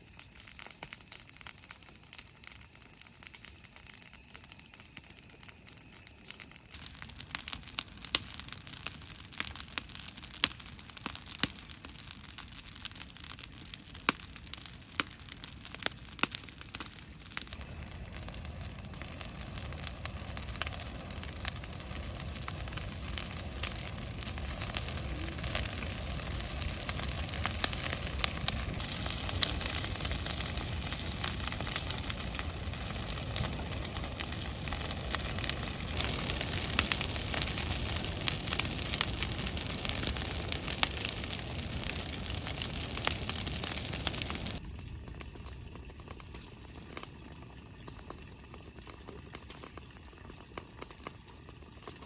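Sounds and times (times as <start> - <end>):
food sizzling in a pan: 0.0 - 52.0.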